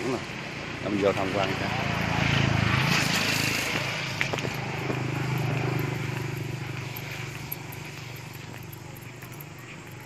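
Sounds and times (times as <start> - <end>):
engine hum: 0.0 - 10.0.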